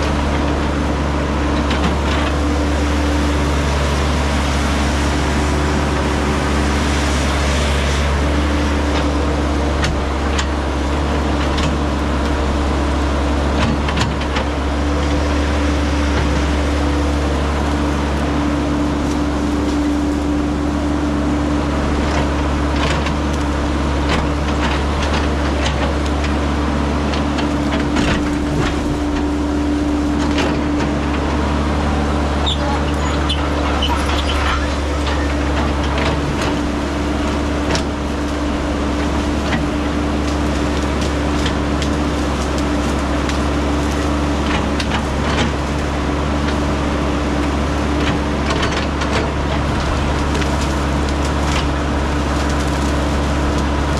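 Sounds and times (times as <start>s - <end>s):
excavator diesel engine running: 0.0s - 53.9s
branches cracking and snapping: 0.1s - 53.9s.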